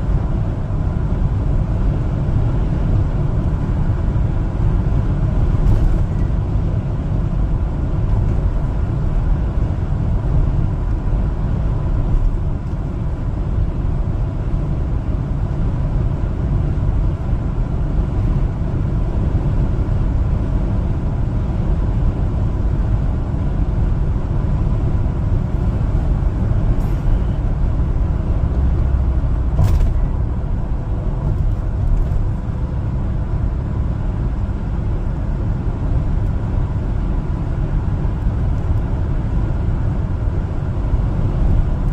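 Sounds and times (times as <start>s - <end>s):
truck engine rumble: 0.0s - 41.9s.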